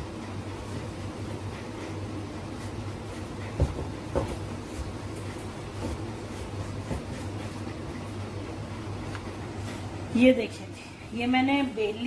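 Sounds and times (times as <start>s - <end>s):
rolling pin rolling dough: 0.0s - 12.0s
steady low hum: 0.0s - 12.0s.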